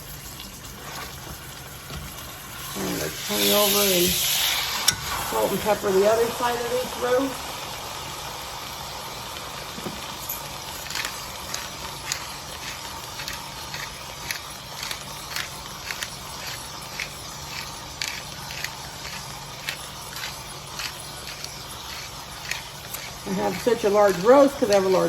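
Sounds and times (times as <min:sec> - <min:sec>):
meat sizzling in hot oil: 0:00.0 - 0:25.0.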